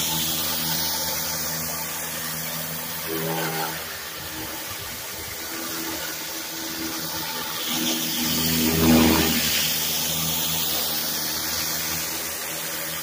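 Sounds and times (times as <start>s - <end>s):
high-pressure water spraying concrete: 0.0s - 13.0s
pressure washer engine hum: 0.0s - 13.0s.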